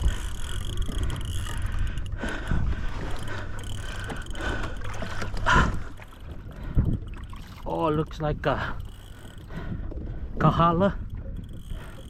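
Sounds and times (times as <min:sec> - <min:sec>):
water sloshing against kayak hull: 0:00.0 - 0:12.0
wind and water rumble: 0:00.0 - 0:12.0.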